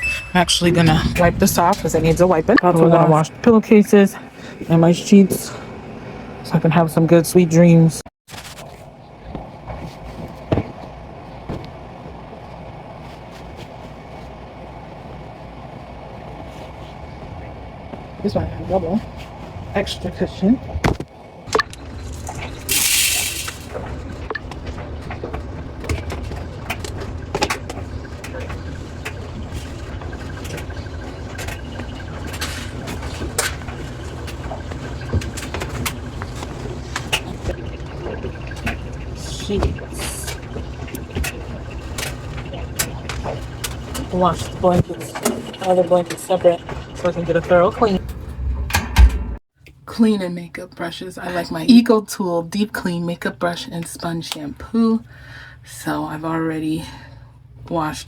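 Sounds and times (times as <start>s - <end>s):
washing machine running: 0.0s - 49.4s.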